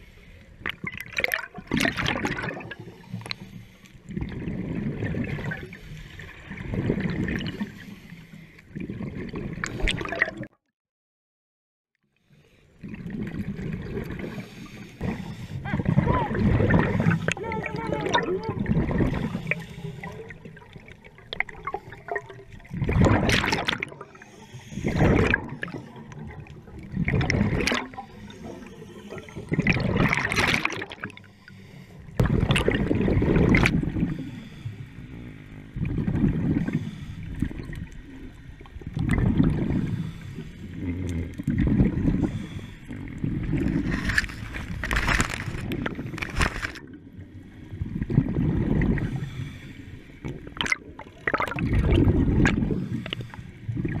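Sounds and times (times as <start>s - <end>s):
low watery rumble: 0.0s - 10.5s, 12.2s - 54.0s
exhaled bubbles rushing: 0.6s - 3.1s, 4.0s - 7.8s, 8.7s - 10.5s, 12.8s - 31.3s, 32.1s - 34.3s, 35.6s - 49.3s, 50.2s - 53.1s, 53.7s - 54.0s.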